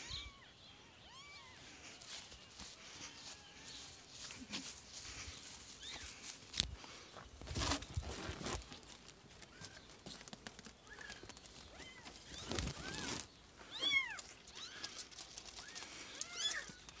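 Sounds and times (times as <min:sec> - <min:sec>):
rustling: 0:01.8 - 0:17.0.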